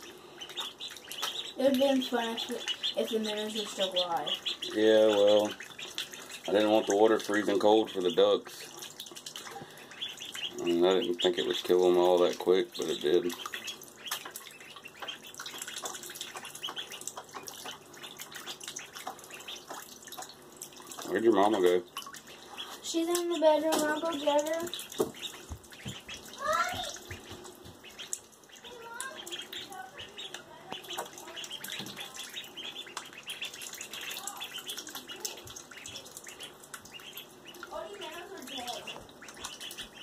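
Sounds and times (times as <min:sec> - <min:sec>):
ducklings splashing in water: 0:00.0 - 0:40.0.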